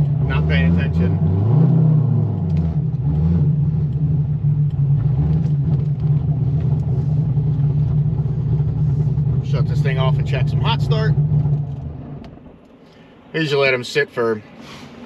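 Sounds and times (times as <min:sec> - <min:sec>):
deep engine drone from inside car: 0:00.0 - 0:15.0.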